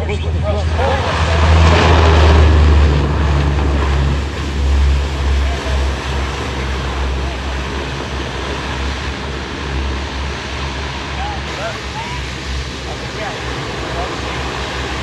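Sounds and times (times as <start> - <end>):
turboprop engines rumbling: 0.0 - 15.0.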